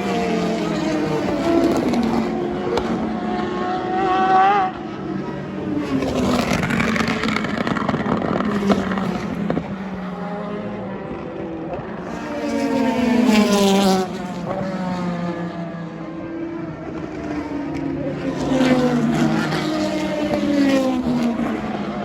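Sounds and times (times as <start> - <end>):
race cars passing: 0.0 - 22.0.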